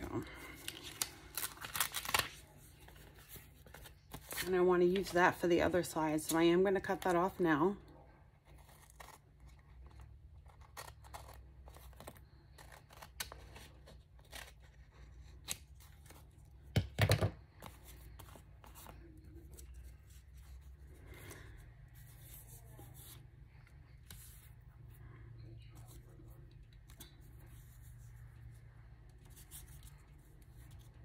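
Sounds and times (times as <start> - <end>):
faint paper handling: 0.0 - 5.4, 8.3 - 16.6, 17.4 - 31.0.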